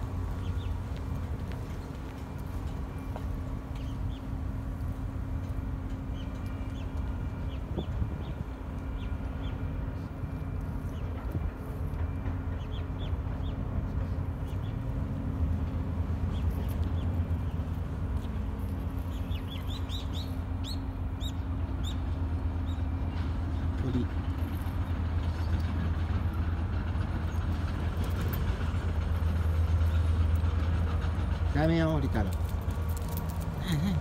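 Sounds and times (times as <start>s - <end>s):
motor vehicle rumble: 0.0s - 34.0s
street traffic: 0.0s - 34.0s.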